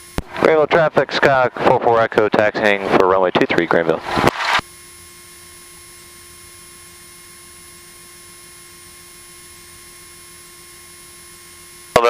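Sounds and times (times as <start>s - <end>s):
electrical hum and hiss: 0.0s - 12.0s
faint high whine: 0.0s - 12.0s.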